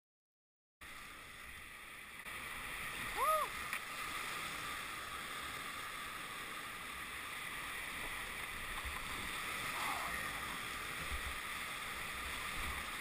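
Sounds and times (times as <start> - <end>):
whitewater pouring over boulders: 2.3 - 13.0.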